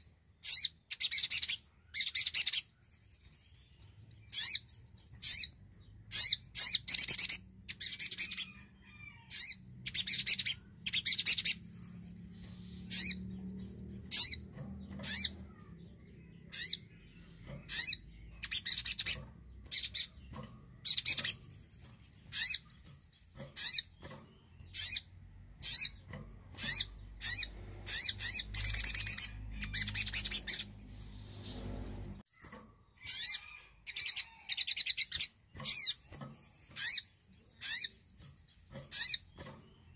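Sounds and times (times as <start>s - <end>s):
bird high piercing calls and trills: 0.0s - 39.9s.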